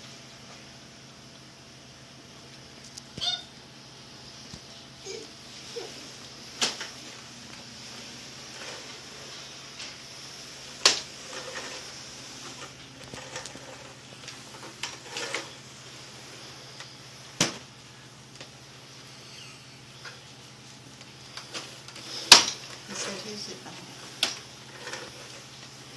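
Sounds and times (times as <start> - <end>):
vacuum cleaner motor running: 4.2 - 25.9.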